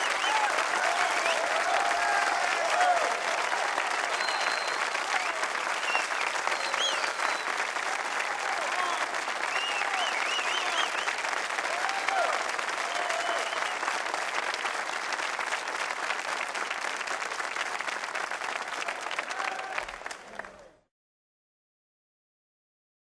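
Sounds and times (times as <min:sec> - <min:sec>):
people cheering: 0:00.0 - 0:20.8
crowd clapping: 0:00.0 - 0:20.9.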